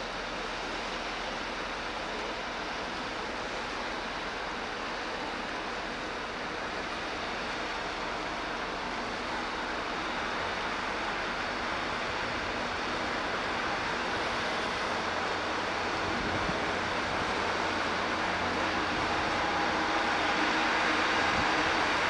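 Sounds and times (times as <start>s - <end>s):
ship engine noise and bow wash: 0.0s - 22.0s.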